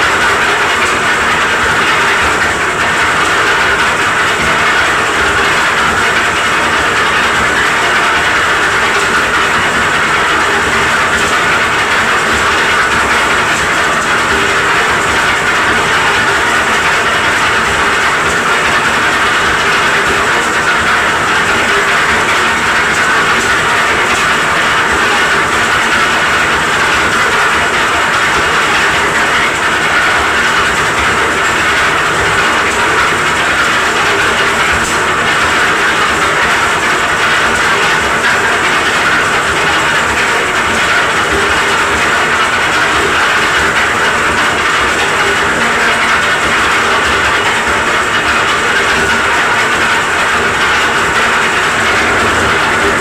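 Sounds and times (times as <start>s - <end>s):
concrete mixer engine running: 0.0s - 53.0s.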